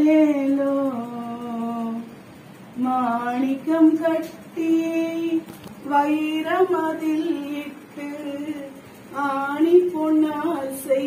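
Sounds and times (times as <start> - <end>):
woman singing a lullaby: 0.0 - 11.0.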